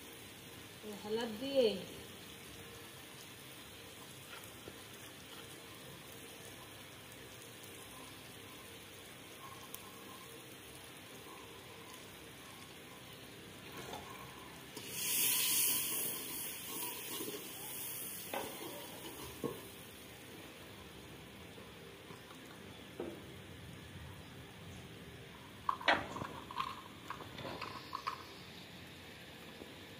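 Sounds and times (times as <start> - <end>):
masala frying in oil: 0.0 - 29.9.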